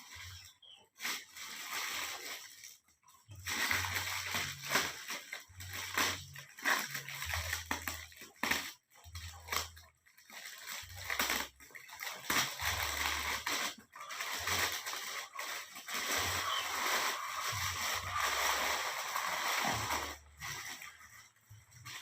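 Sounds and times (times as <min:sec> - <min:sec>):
plastic bag handled: 0:00.0 - 0:22.0.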